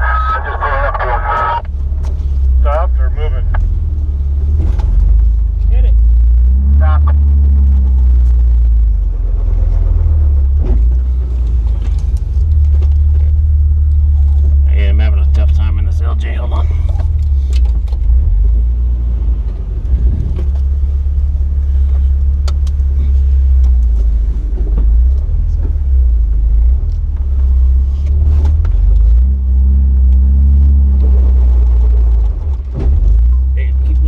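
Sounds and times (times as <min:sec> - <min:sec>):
engine rumbling under load: 0:00.0 - 0:34.0.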